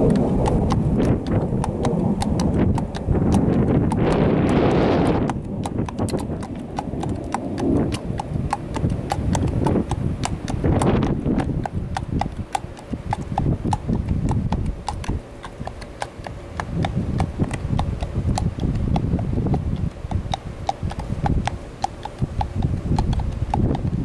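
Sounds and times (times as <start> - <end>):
horse hooves clip-clopping: 0.0 - 24.0
wind buffeting microphone: 0.0 - 24.0.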